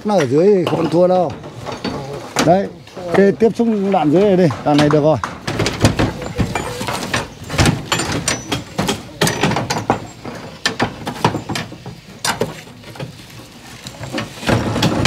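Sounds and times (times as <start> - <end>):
steel bars clinking and scraping: 0.0 - 15.0.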